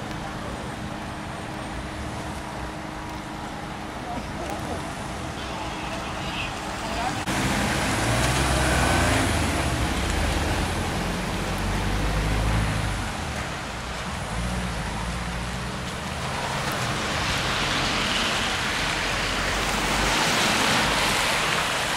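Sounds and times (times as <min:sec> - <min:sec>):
tyres hissing on wet road: 0:00.0 - 0:21.9.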